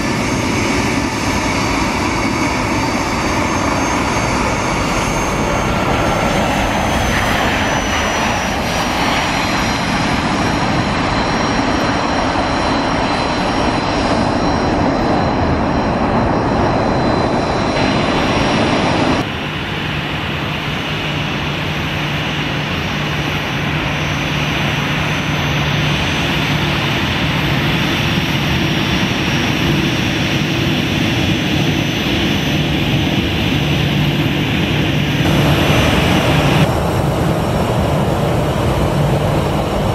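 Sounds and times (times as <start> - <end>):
high jet engine whine: 0.0 - 39.9
jet engines roaring: 0.0 - 39.9.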